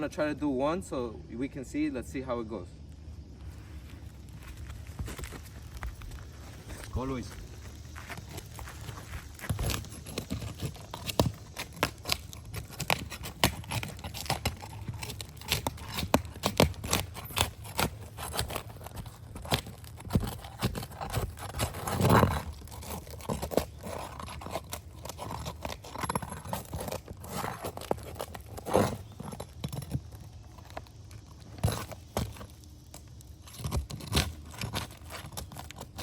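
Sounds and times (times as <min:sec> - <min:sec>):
shingle scraping and tearing: 0:03.5 - 0:36.0.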